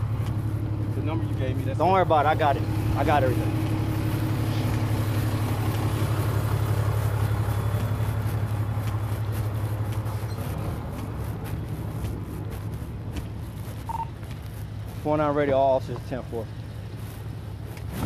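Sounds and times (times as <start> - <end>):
large vehicle engine idling: 0.0 - 18.0.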